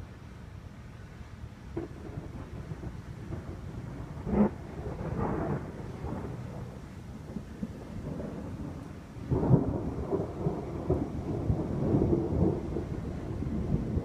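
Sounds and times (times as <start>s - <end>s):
thunder rumbling and cracking: 1.8s - 14.0s.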